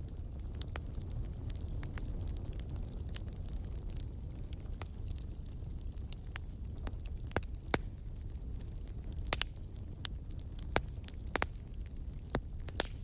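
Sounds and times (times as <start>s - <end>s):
fire crackling and popping: 0.0s - 13.0s
low rumble of burning fire: 0.0s - 13.0s.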